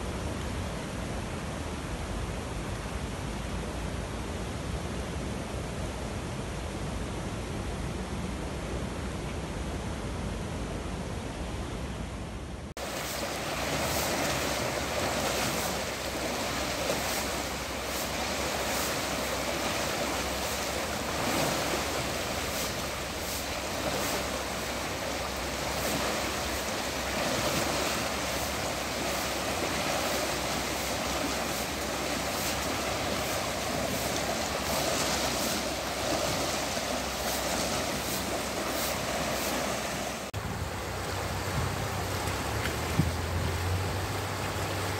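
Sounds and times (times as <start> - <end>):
rush of turbulent river water: 0.0 - 44.9.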